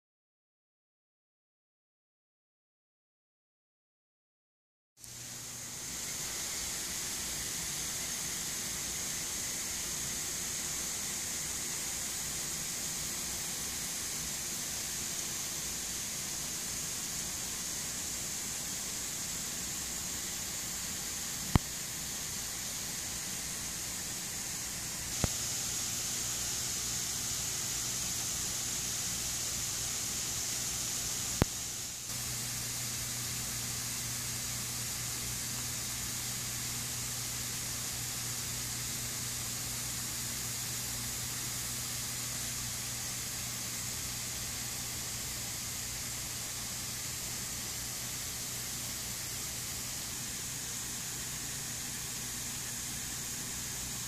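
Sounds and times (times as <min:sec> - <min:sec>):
low steady hum: 0:05.0 - 0:54.0
misting nozzles hissing: 0:05.8 - 0:54.0.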